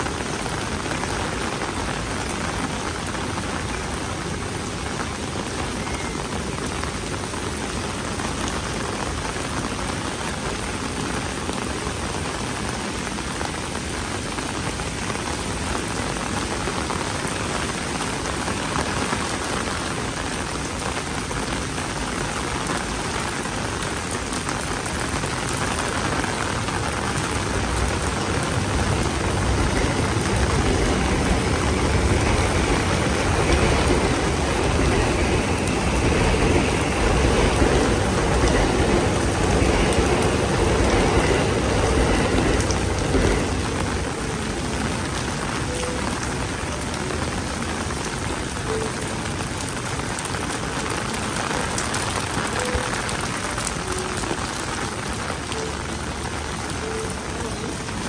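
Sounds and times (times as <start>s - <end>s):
rain falling on street: 0.0s - 58.0s.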